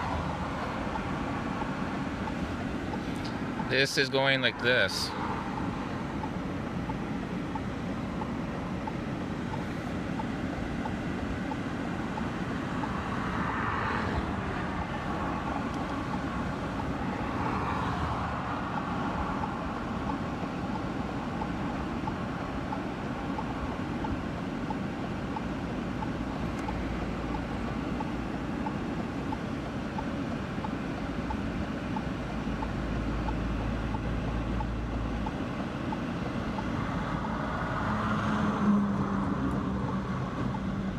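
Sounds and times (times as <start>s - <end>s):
vehicle rumbling: 0.0s - 40.9s.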